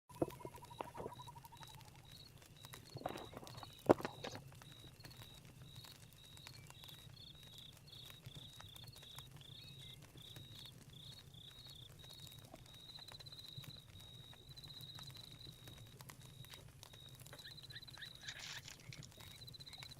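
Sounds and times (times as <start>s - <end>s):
crackling campfire: 0.1s - 19.9s
crickets chirping: 0.2s - 19.9s.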